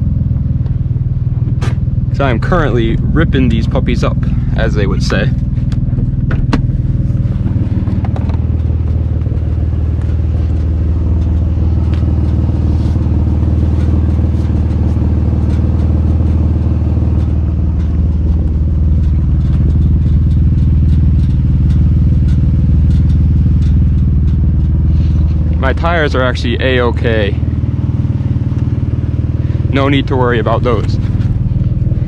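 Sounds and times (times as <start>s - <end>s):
car engine running steadily: 0.0s - 32.0s.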